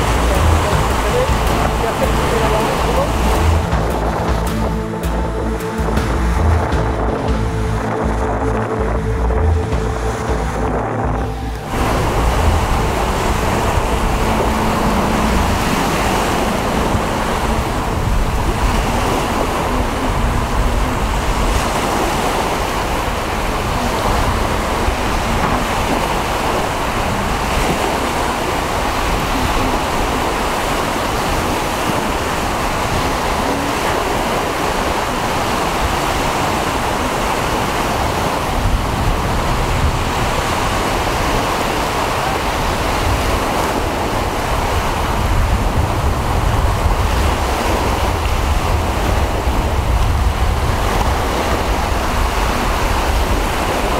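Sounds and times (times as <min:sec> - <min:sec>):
waves breaking on shore: 0:00.0 - 0:53.9
wind on microphone: 0:00.0 - 0:53.9.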